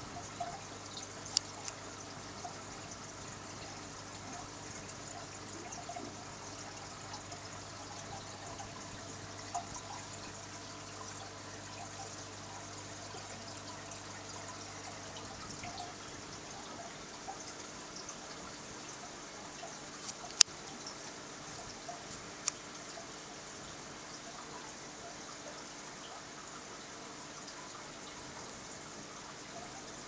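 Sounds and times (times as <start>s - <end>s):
aquarium water trickling: 0.0s - 30.0s
low steady hum: 0.0s - 30.0s.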